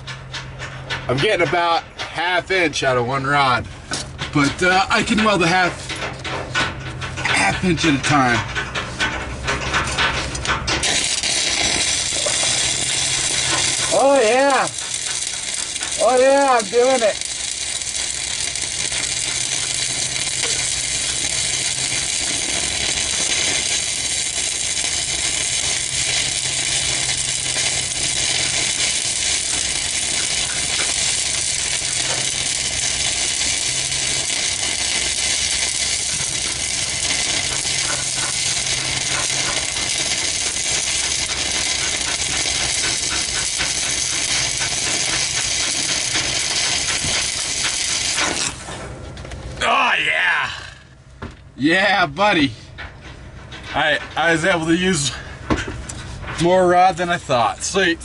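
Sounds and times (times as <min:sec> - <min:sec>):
welding arc crackling and hissing: 0:00.0 - 0:51.0, 0:53.7 - 0:58.0.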